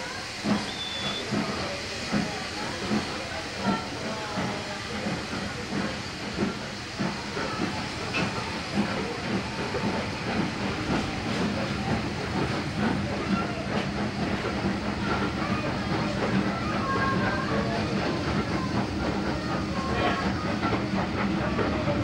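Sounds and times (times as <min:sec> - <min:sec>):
steam hissing: 0:00.0 - 0:22.0
train coaches rolling past: 0:00.0 - 0:22.0
wheels clicking on track: 0:00.0 - 0:22.0.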